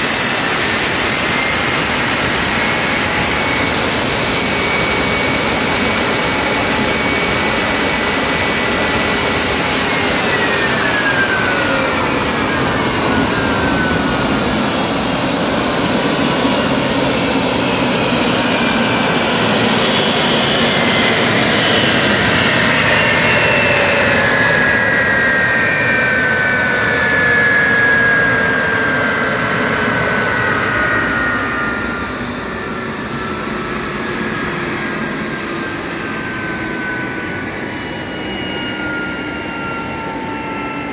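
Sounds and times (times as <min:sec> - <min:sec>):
jet engine whine: 0:00.0 - 0:40.9
jet exhaust rush: 0:00.0 - 0:40.9.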